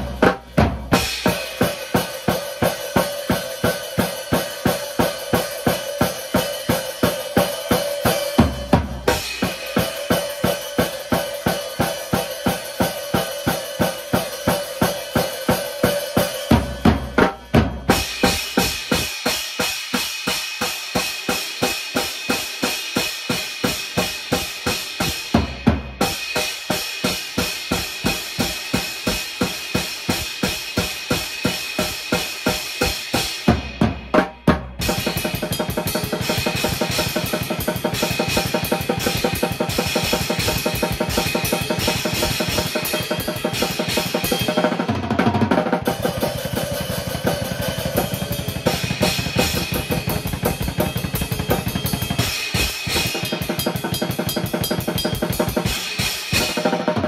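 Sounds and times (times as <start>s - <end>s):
drum kit playing: 0.0s - 57.0s.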